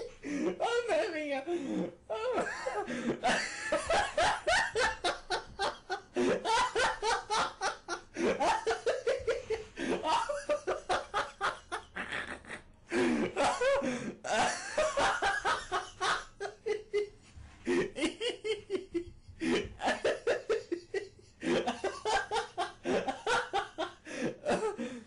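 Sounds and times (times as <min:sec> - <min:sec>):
person laughing hard: 0:02.2 - 0:24.9.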